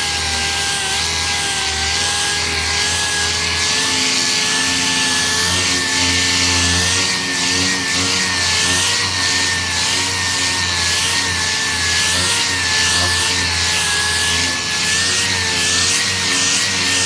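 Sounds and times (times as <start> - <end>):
sander motor whine: 0.0 - 17.0.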